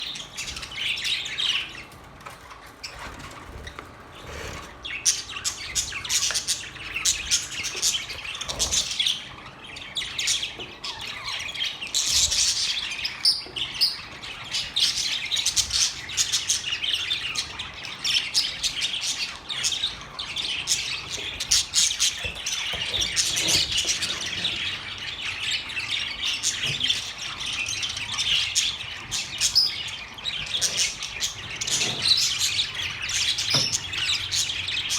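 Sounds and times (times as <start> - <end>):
budgerigars chirping: 2.9 - 34.9.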